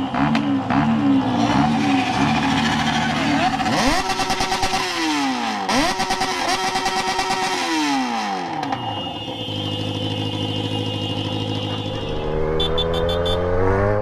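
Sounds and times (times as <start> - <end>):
loud motorcycle engine revving: 0.0 - 14.0.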